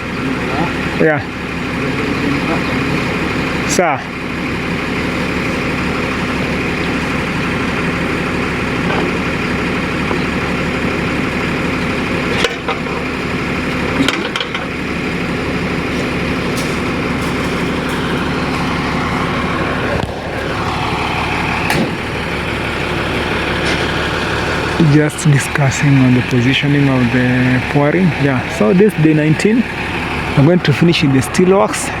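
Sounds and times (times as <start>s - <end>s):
lorry engine idling: 0.0s - 32.0s.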